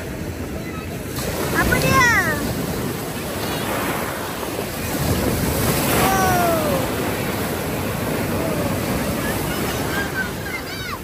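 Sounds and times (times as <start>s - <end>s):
sea surf breaking: 0.0s - 11.0s.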